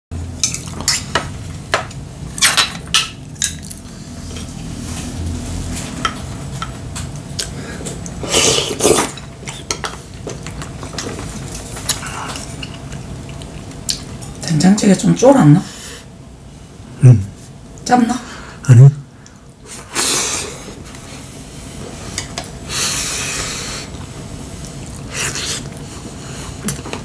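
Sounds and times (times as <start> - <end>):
low steady hum: 0.1 - 27.0.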